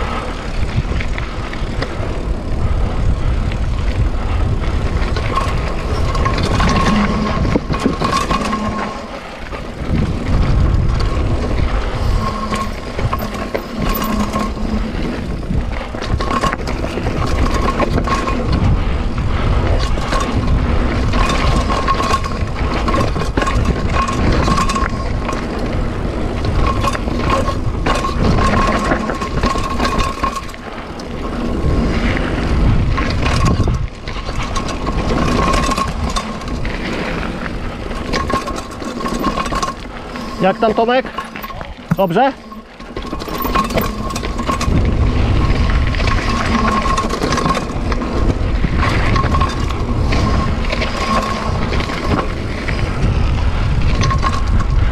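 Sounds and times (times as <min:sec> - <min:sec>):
bike clicks and rattles: 0:00.0 - 0:54.9
bike tyres rumbling on gravel: 0:00.0 - 0:54.9
wind buffeting microphone: 0:00.0 - 0:54.9.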